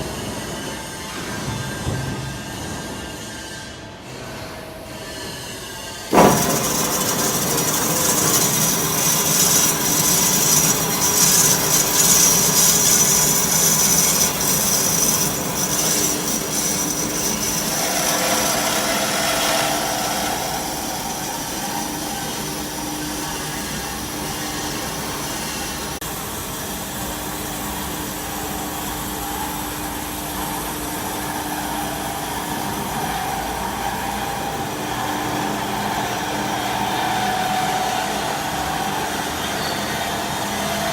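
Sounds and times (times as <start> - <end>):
band saw cutting metal: 0.0 - 40.9.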